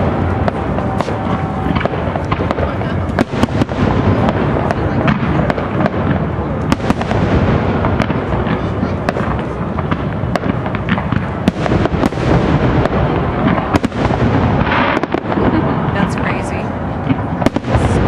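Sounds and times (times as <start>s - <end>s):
fireworks booming: 0.0s - 18.0s
fireworks cracks and pops: 0.0s - 18.0s.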